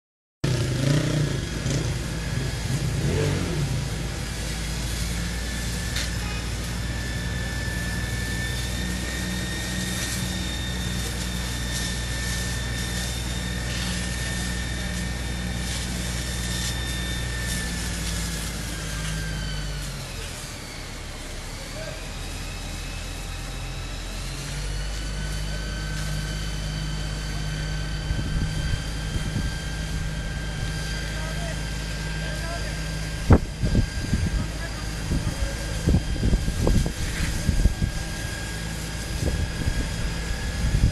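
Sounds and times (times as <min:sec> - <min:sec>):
fire engine motor humming: 0:00.4 - 0:40.9
high pump whine: 0:00.4 - 0:40.9
hose jet spraying: 0:00.5 - 0:27.9, 0:28.8 - 0:40.8.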